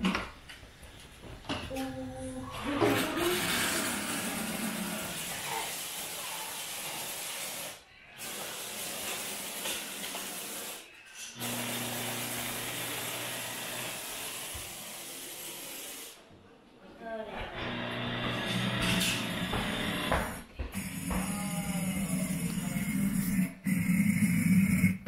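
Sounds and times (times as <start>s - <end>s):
steam cleaner hissing: 3.2s - 16.2s, 17.8s - 25.0s.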